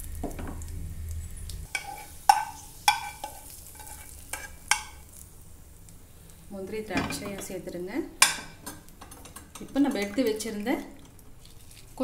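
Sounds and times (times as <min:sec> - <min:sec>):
nuts sizzling in frying pan: 0:00.0 - 0:12.0.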